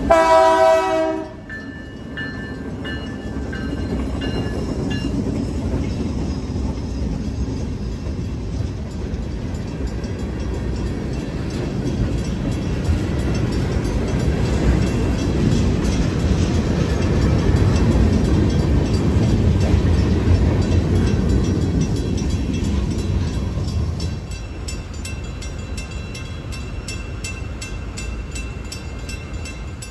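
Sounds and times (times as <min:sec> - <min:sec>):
freight train rolling past: 0:00.0 - 0:29.9
steel wheels clacking on rails: 0:00.0 - 0:29.9.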